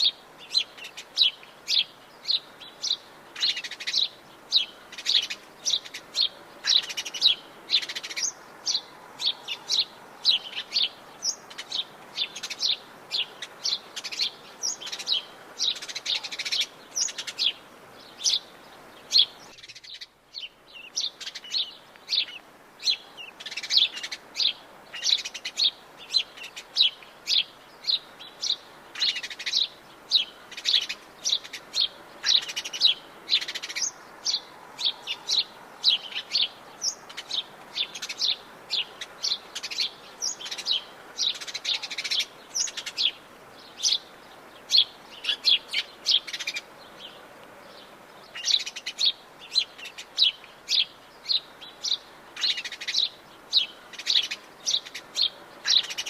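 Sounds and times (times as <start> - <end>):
forest birds chirping: 0.0 - 56.0.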